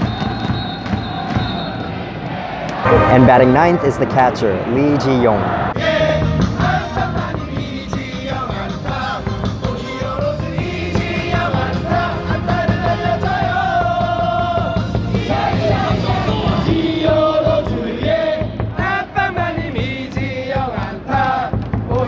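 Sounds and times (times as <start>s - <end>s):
crowd singing and shouting: 1.2s - 4.3s, 5.4s - 22.0s.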